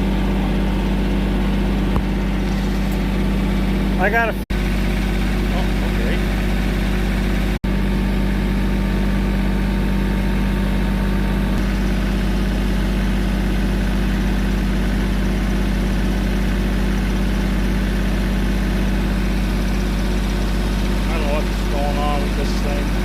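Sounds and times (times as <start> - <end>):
backhoe engine running: 0.0 - 23.0.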